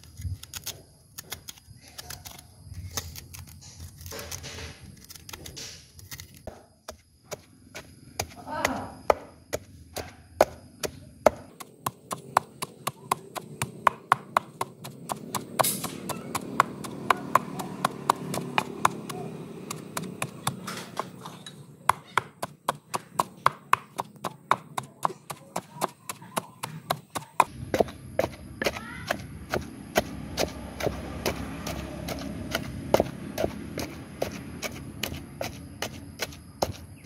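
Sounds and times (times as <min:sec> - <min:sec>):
pestle pounding in stone mortar: 0:06.5 - 0:37.0.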